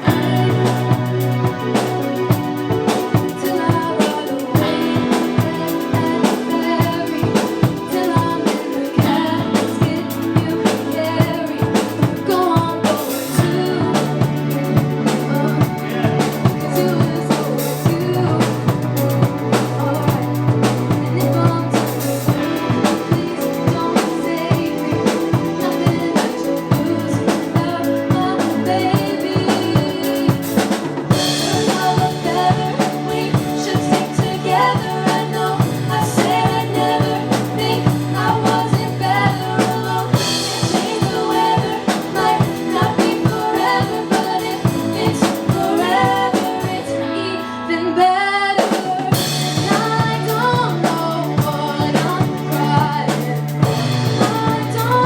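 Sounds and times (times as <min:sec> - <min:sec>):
drum kit beat: 0:00.0 - 0:46.9, 0:48.6 - 0:55.0
band playing music: 0:00.0 - 0:47.8, 0:48.6 - 0:55.0.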